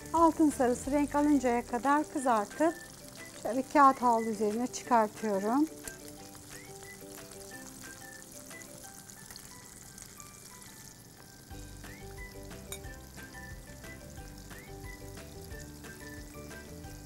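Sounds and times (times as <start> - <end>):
deep-frying sizzle and crackles: 0.0 - 17.0.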